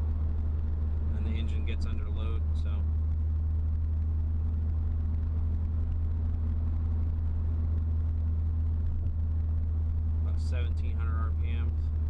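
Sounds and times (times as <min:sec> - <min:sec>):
car exhaust drone: 0:00.0 - 0:12.0
road noise: 0:00.0 - 0:12.0.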